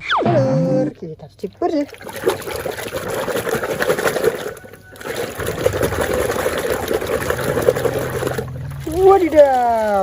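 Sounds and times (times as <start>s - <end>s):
water running and splashing: 1.5s - 10.0s.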